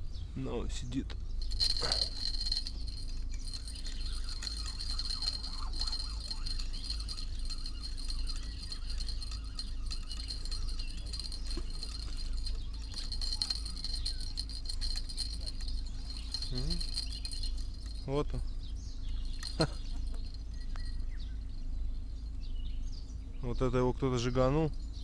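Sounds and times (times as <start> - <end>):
bite bells jingling: 1.3 - 25.0.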